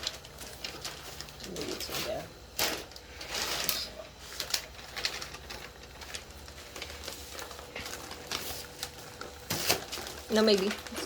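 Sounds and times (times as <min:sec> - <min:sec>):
plastic clicking and rustling: 0:00.0 - 0:11.0.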